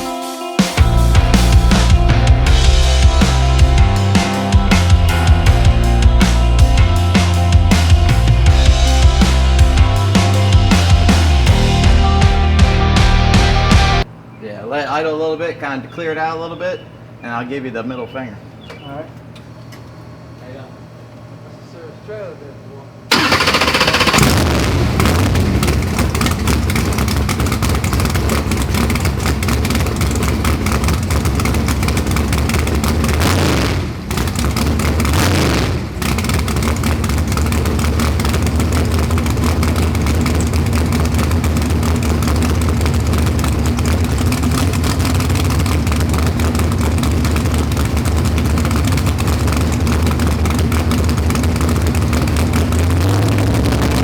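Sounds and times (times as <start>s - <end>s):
car engine running hard: 0.8s - 14.2s, 23.1s - 54.0s.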